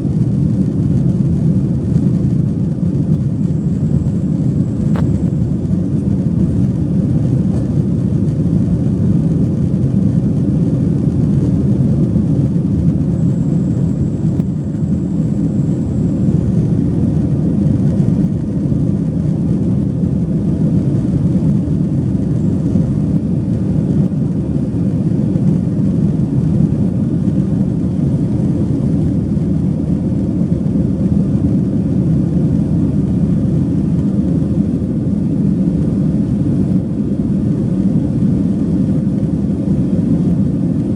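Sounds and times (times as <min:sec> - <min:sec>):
jet engine rumble in cabin: 0:00.0 - 0:40.9.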